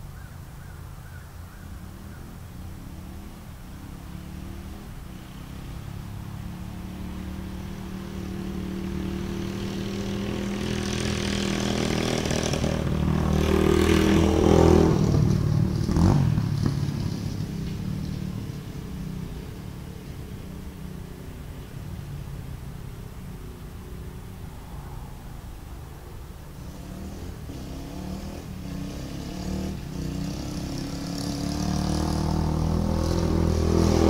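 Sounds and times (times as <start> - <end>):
dirt bike engine passing by: 0.2 - 34.0.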